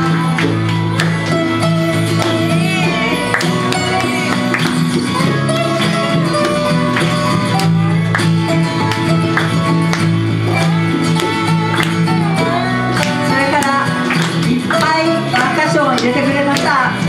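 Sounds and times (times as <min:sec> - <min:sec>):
fiddle playing: 0:00.0 - 0:16.9
plucked strings: 0:00.0 - 0:17.0
strummed acoustic guitars: 0:00.0 - 0:17.0.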